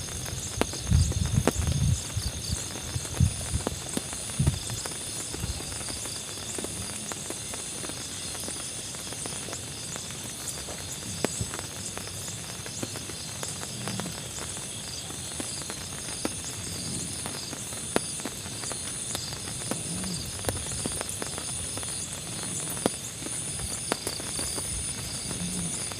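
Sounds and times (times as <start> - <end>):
constant hiss: 0.0 - 25.9
insects chirping: 0.0 - 25.9.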